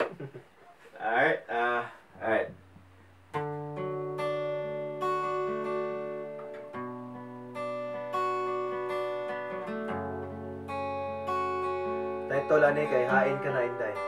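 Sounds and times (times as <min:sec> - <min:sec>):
acoustic guitar picking chords: 0:02.1 - 0:14.0.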